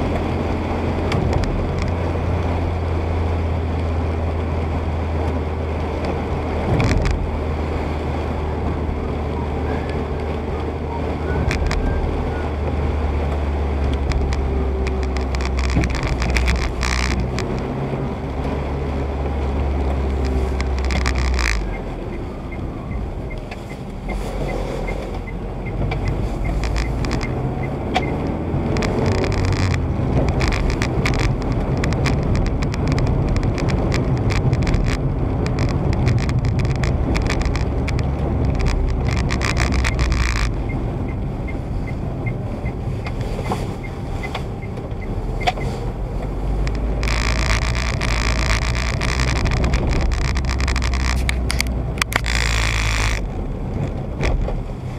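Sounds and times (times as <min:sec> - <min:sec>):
car engine rumble: 0:00.0 - 0:54.9
tyre noise on wet road: 0:00.0 - 0:54.9.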